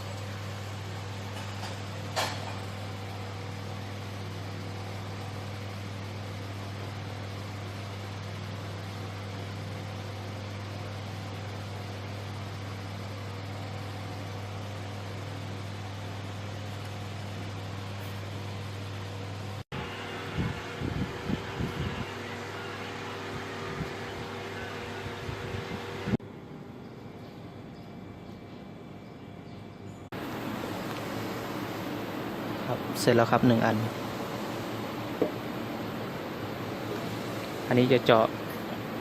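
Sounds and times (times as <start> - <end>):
mechanical hum: 0.0 - 39.0.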